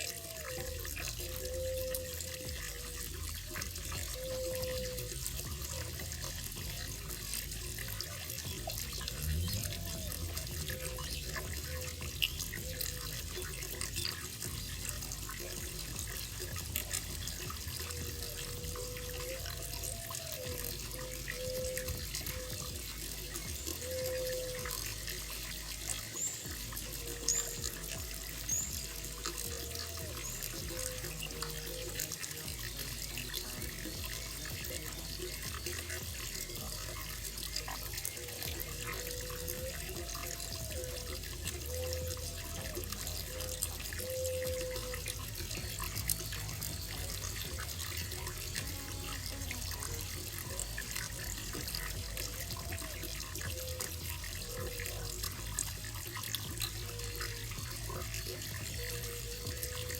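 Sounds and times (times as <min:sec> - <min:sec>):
water splashing into a pond: 0:00.0 - 0:59.9.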